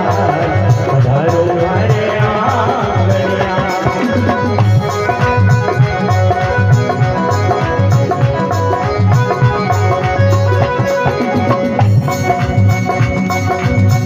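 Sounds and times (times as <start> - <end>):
electronic keyboard chords: 0.0 - 14.0
hand drum beat: 0.0 - 14.0
harmonium chords: 0.0 - 14.0.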